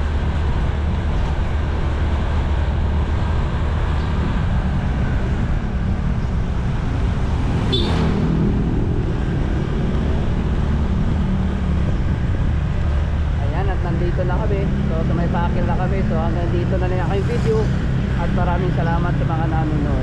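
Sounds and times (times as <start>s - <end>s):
road and wind noise: 0.0s - 20.0s
motorcycle passing: 2.3s - 19.2s.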